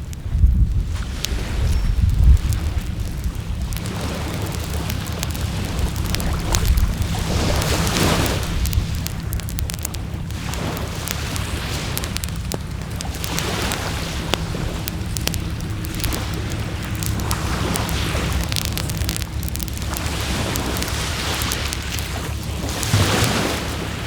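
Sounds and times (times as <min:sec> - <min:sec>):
bonfire crackling and popping: 0:00.0 - 0:24.0
low rumble of wind: 0:00.0 - 0:24.0
waves washing onto shore: 0:00.0 - 0:24.0.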